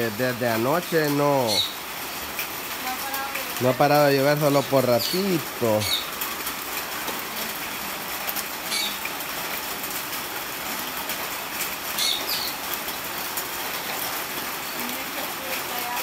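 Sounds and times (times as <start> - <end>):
rain hissing: 0.0 - 16.0
running water: 0.0 - 16.0.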